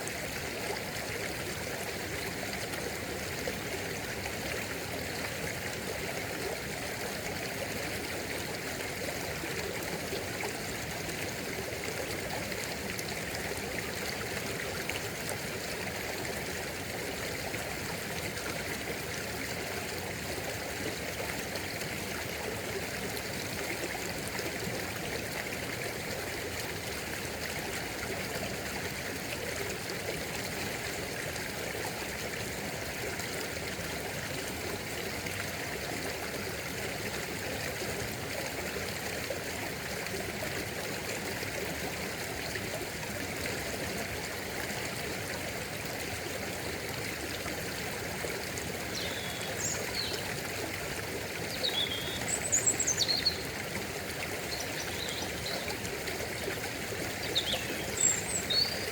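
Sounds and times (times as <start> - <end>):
stream flowing and trickling: 0.0 - 58.9.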